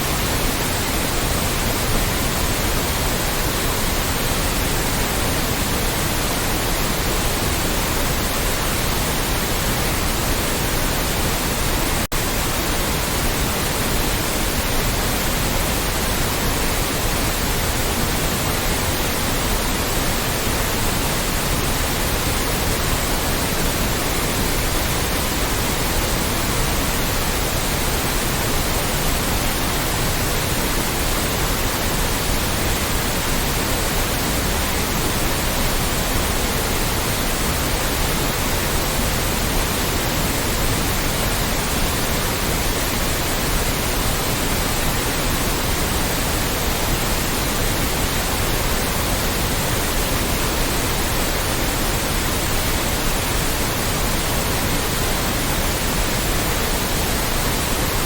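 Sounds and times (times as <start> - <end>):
loud white noise hiss: 0.0 - 58.0.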